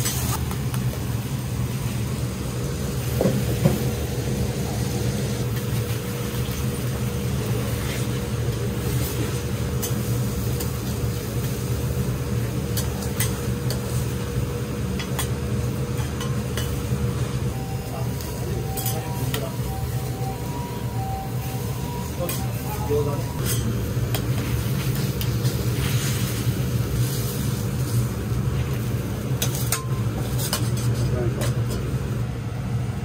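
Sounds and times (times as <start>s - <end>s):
steady low hum: 0.3s - 33.0s.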